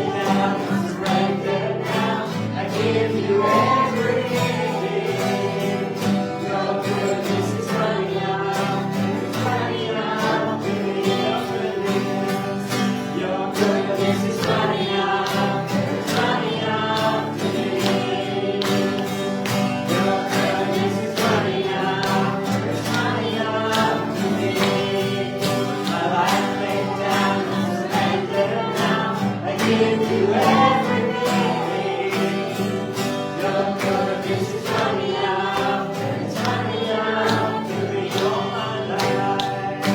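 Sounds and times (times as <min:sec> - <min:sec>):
congregation singing with band: 0:00.0 - 0:39.9
guitar: 0:00.0 - 0:39.9.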